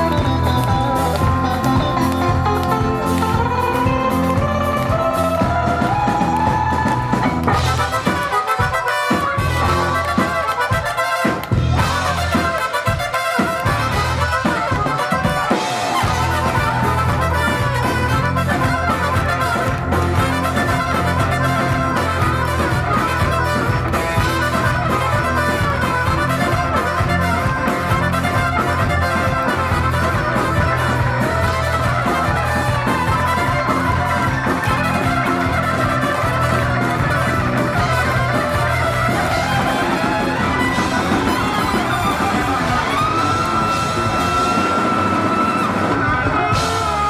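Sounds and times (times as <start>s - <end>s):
steady bass line: 0.0s - 8.8s, 9.4s - 10.6s, 11.4s - 47.0s
drums: 0.0s - 47.0s
lead guitar: 0.0s - 47.0s
rock band playing instrumental: 0.0s - 47.0s.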